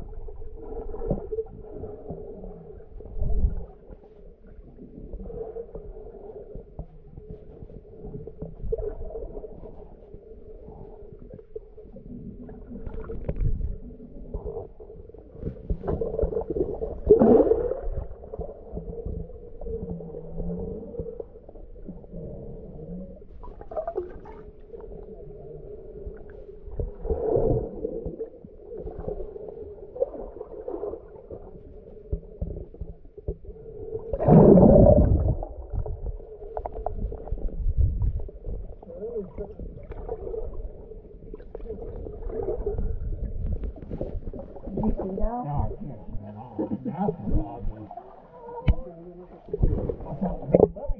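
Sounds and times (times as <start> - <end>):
muffled underwater hum: 0.0 - 50.9.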